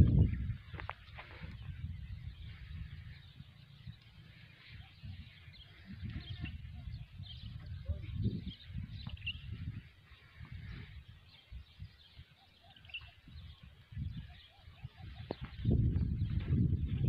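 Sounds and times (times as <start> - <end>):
faint bird chirps: 0.0 - 17.0
wind buffeting microphone: 0.0 - 17.0.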